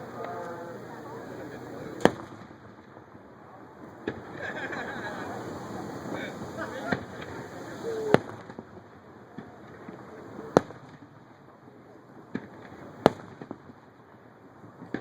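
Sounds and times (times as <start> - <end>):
fireworks bangs: 0.0 - 15.0
soft fireworks pops: 0.0 - 15.0.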